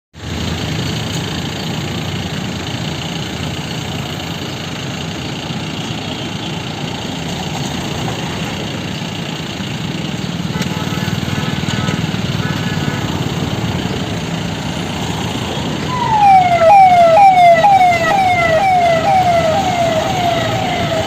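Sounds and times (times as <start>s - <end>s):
vehicle engine running: 0.2s - 21.0s.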